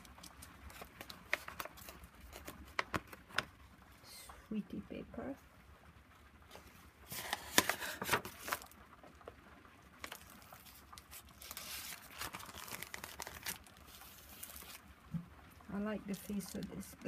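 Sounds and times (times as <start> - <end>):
paper and plastic pages crinkling: 0.0 - 4.0, 6.5 - 15.2, 15.8 - 17.0.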